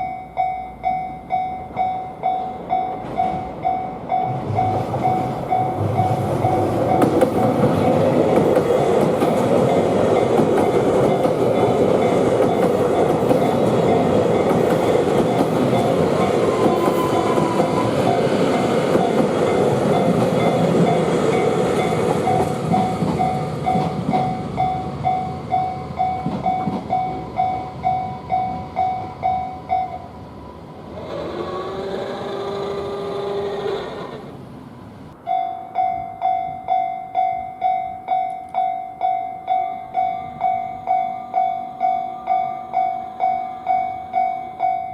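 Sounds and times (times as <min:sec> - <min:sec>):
train passing: 0:00.0 - 0:44.9.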